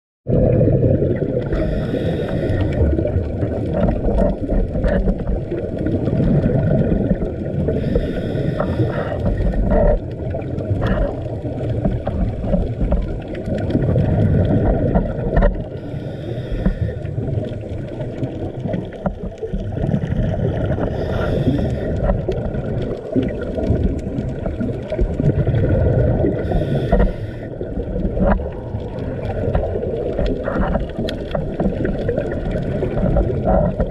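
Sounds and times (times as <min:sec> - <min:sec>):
muffled underwater rumble: 0:00.3 - 0:33.9
regulator bubbles hissing: 0:00.3 - 0:33.9.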